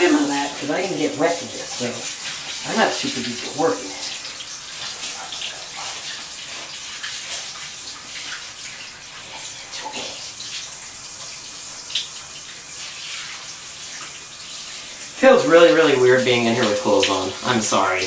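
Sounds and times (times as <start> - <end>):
shower water spattering into bathtub: 0.0 - 18.0.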